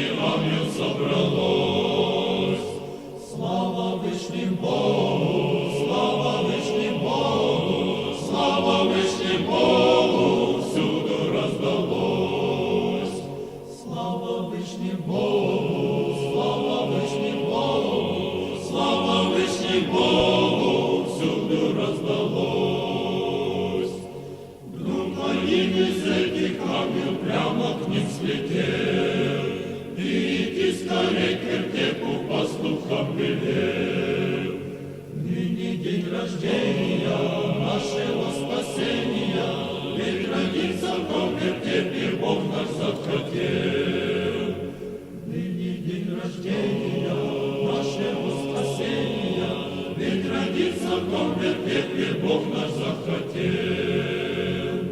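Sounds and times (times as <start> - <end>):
choir chanting unaccompanied: 0.0 - 54.9.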